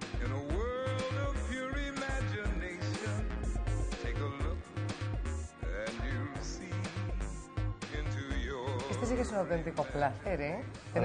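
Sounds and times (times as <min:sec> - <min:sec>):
music with bass beat: 0:00.0 - 0:11.0.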